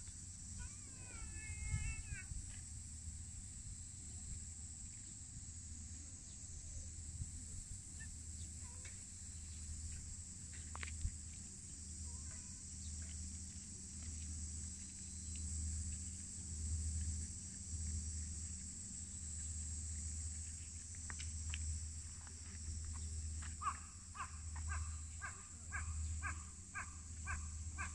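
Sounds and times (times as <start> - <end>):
insects chirring: 0.0 - 27.9.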